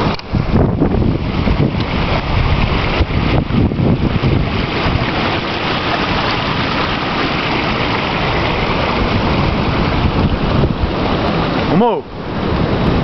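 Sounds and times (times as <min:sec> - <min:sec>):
seawater splashing over rocks: 0:00.0 - 0:13.0.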